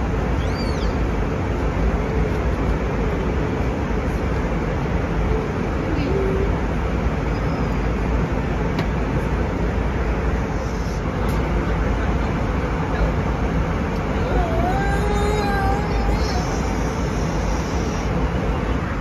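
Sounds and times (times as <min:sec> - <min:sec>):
airplane cabin noise: 0:00.0 - 0:19.0.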